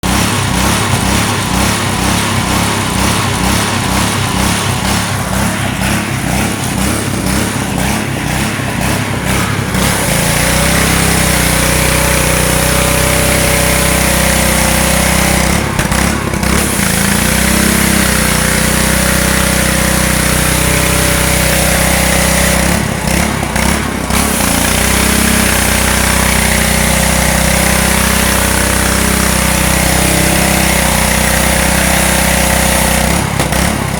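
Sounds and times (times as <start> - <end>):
pressure washer engine running: 0.0 - 33.9
pressure washer hiss: 0.1 - 33.9.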